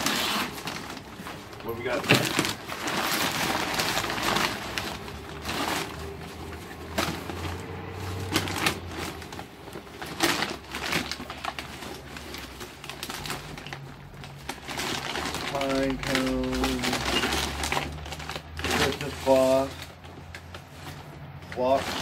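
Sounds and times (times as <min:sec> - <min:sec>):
paper bag crinkling and rustling: 0:00.0 - 0:22.0.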